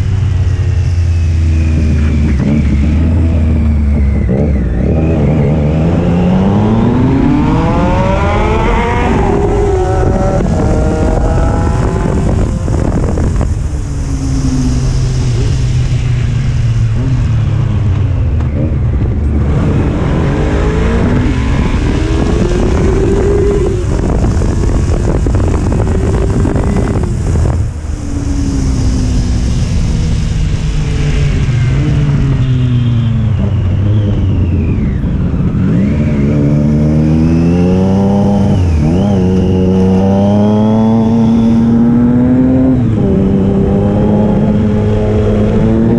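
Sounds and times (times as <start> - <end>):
motorcycle engine revving: 0.0 - 45.9
wind rush: 0.0 - 45.9.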